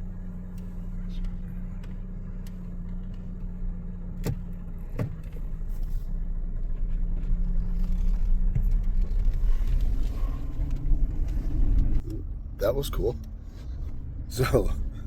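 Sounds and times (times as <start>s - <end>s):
car engine hum from inside cabin: 0.0s - 15.0s.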